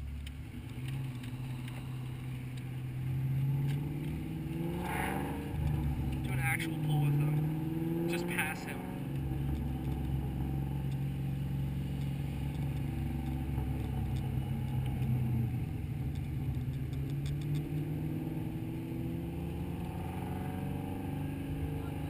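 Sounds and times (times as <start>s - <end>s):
car engine and exhaust drone: 0.0s - 22.0s.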